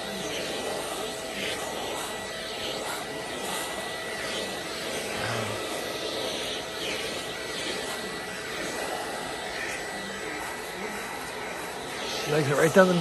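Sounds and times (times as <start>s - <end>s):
grooming vacuum whirring: 0.0s - 13.0s.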